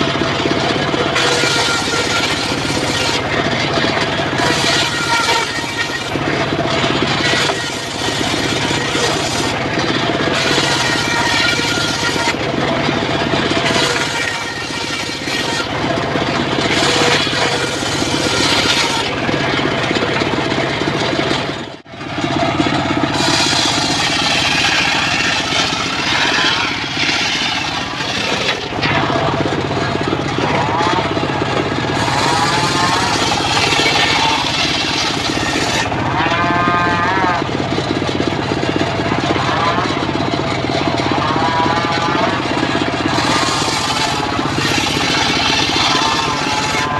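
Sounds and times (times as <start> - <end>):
saw blade cutting log: 0.0 - 46.9
sawmill engine running: 0.0 - 46.9.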